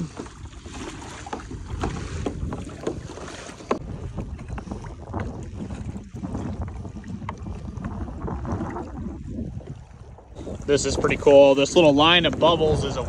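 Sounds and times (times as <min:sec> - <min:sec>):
water slapping kayak hull: 0:00.0 - 0:13.0
wind buffeting microphone: 0:00.0 - 0:13.0.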